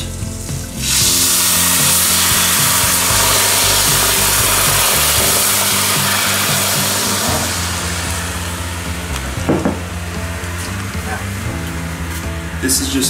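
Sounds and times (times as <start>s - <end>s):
liquid sizzling in hot skillet: 0.0s - 12.7s.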